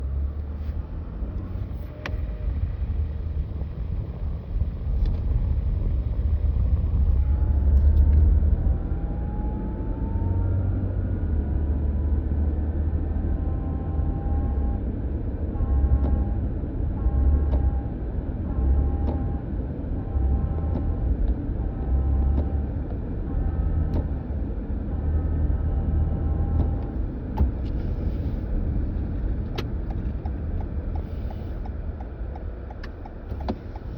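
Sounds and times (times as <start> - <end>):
low engine rumble: 0.0 - 33.9.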